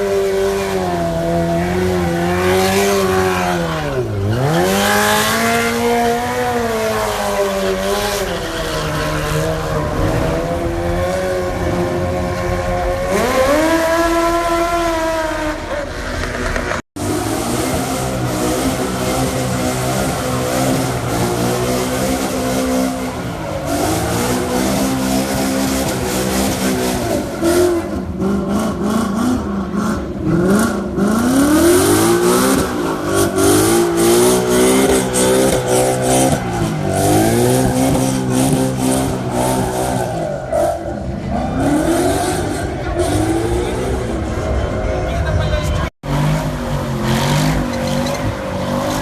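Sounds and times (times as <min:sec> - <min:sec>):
car engine revving hard: 0:00.0 - 0:49.0.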